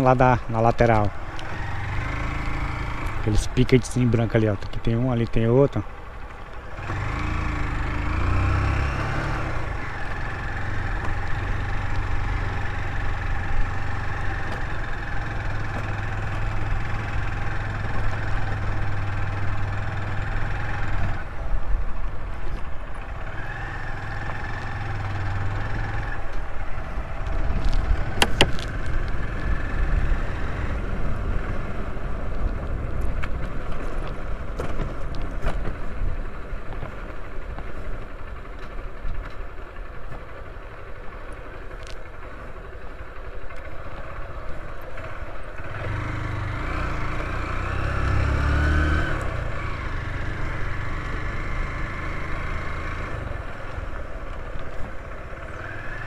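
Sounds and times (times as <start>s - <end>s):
motorcycle engine running: 0.0s - 5.0s, 5.6s - 56.0s
road and wind noise: 0.0s - 56.0s.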